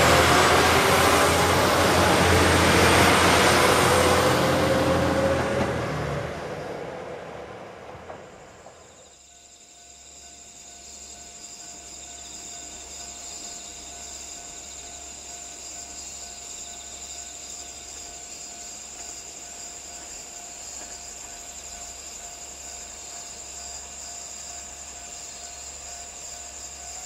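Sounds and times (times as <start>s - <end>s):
crickets and insects trilling: 0.0s - 27.0s.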